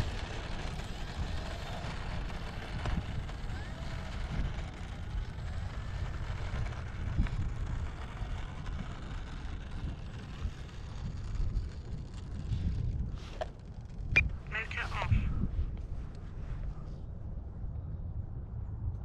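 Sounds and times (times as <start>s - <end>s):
electric motor and propeller whine: 0.0s - 17.7s
wind buffeting microphone: 0.0s - 19.0s.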